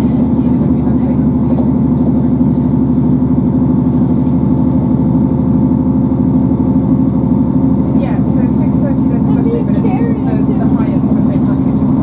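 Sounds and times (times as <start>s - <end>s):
diesel engine drone: 0.0s - 12.0s
train running rumble: 0.0s - 12.0s.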